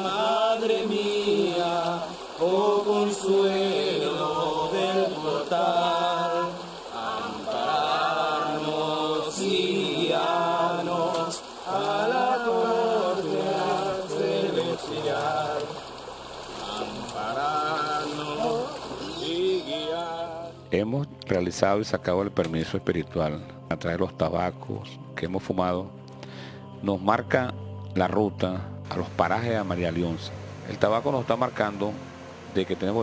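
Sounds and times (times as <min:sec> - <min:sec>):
devotional chanting: 0:00.0 - 0:33.0.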